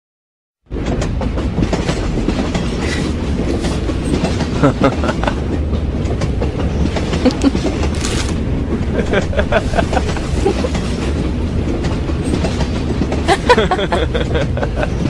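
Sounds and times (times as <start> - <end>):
rail clatter: 0.7 - 15.0
subway train rumble: 0.7 - 15.0.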